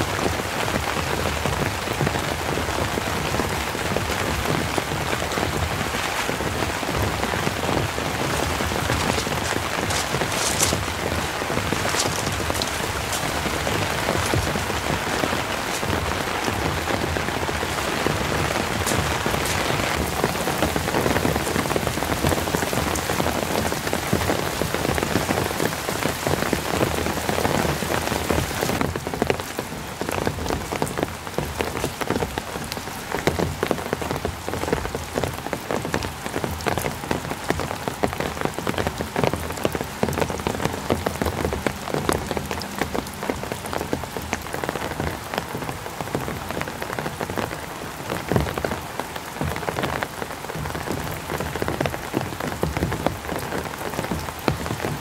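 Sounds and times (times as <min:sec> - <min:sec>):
rain on tent fabric: 0:00.0 - 0:55.0.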